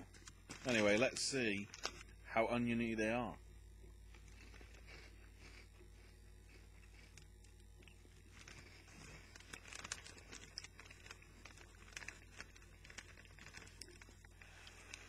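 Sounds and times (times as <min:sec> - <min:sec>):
crunchy snacks being chewed: 0:00.0 - 0:02.2, 0:04.1 - 0:15.0.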